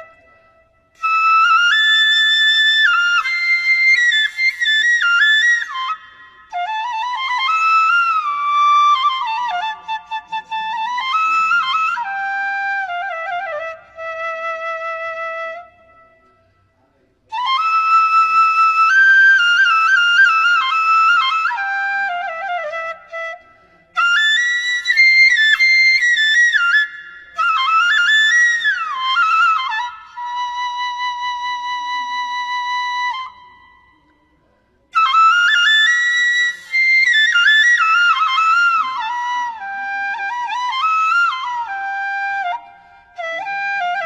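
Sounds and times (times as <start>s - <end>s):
flute melody: 0.0s - 16.6s, 17.3s - 34.2s, 35.0s - 44.0s.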